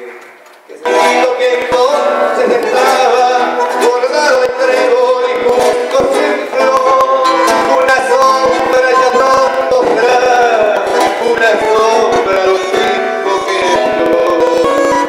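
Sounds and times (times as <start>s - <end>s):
acoustic guitar playing: 0.8s - 15.0s
tango music: 0.8s - 15.0s.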